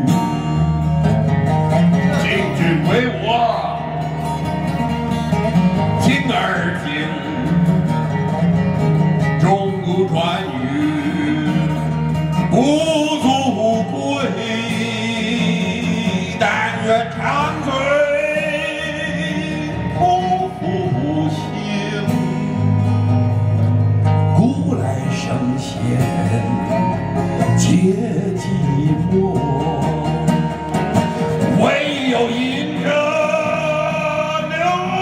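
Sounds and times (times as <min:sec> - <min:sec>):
fingerpicked acoustic guitar: 0:00.0 - 0:35.0
man singing: 0:01.9 - 0:04.3, 0:05.8 - 0:07.9, 0:09.2 - 0:22.8, 0:24.3 - 0:35.0.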